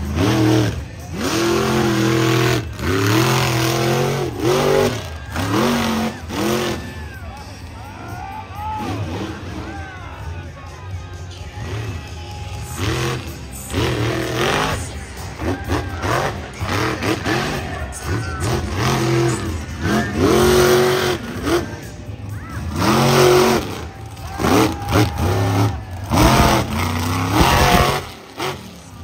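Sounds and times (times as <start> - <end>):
monster truck engine revving: 0.0 - 10.0, 11.5 - 29.0.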